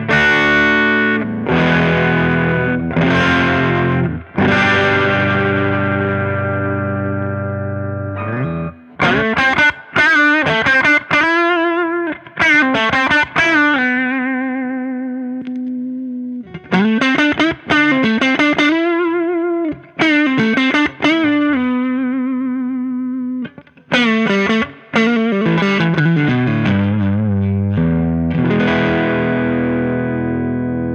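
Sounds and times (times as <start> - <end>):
distorted electric guitar: 0.0 - 30.9.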